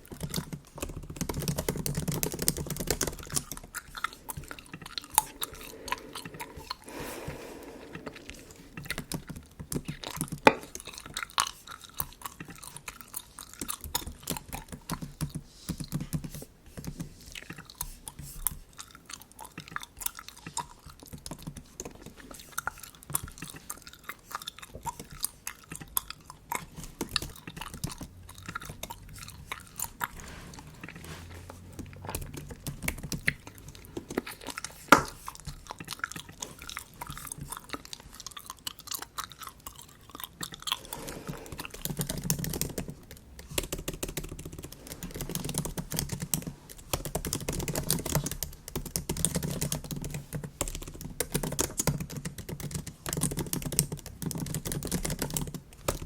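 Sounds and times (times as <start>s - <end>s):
gum chewing clicks and smacks: 0.0s - 56.0s.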